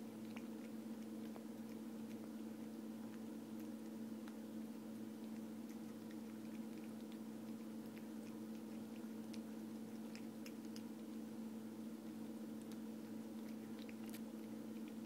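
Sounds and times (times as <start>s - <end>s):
cat chewing clicks and smacks: 0.0s - 11.3s, 12.5s - 15.0s
low electrical hum: 0.0s - 15.0s.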